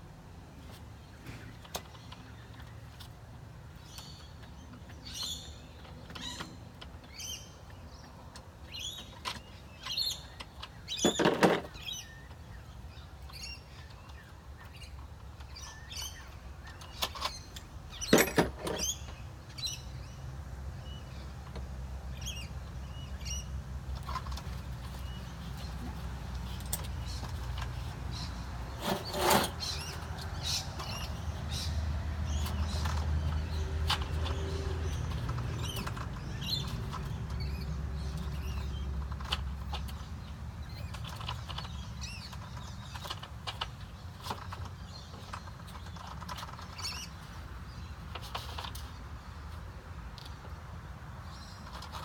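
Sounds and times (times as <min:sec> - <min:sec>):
birds chirping: 0:00.6 - 0:52.0.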